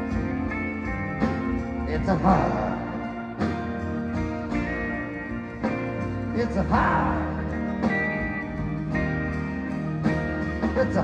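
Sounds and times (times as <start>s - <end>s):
live band playing guitars: 0.0s - 11.0s.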